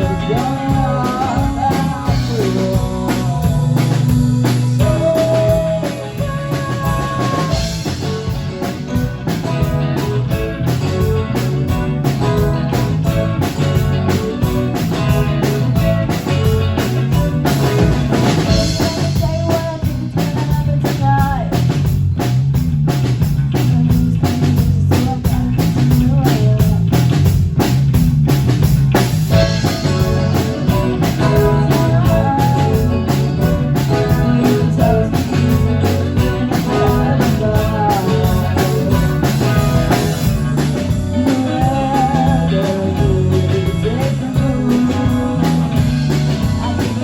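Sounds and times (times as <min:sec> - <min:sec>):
drum kit beat: 0:00.0 - 0:47.0
rock band playing: 0:00.0 - 0:47.0.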